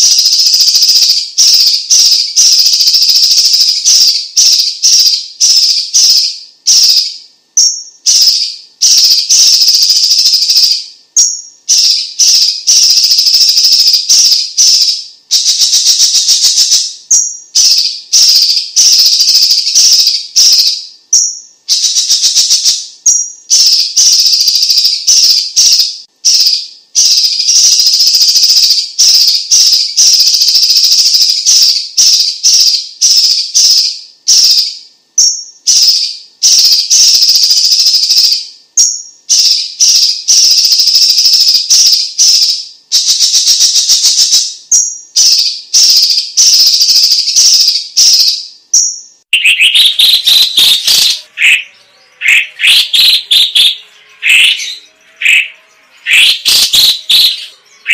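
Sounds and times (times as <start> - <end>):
bird singing rattling trills: 0.0 - 57.9.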